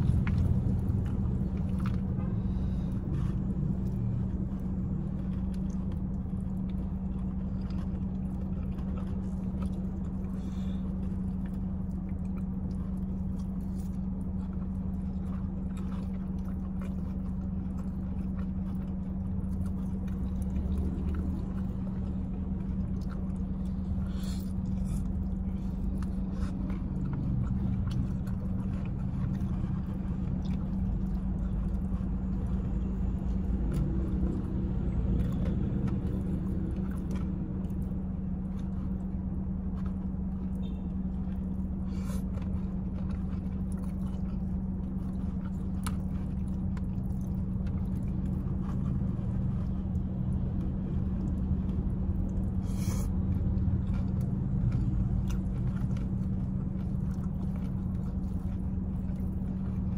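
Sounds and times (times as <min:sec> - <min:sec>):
car cabin engine hum: 0:00.0 - 0:59.9
chewing and biting: 0:00.0 - 0:59.9.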